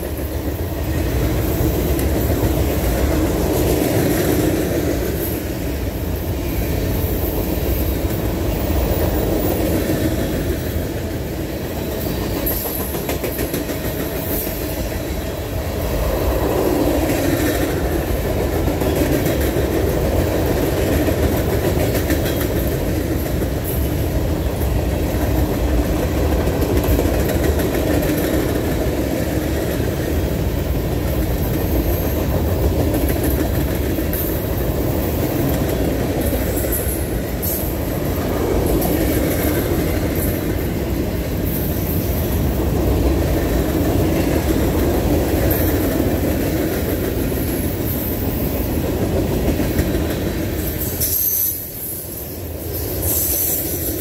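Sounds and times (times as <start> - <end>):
sharp clicks of train wheels: 0.0 - 54.0
train wheels rumbling on rail: 0.0 - 54.0.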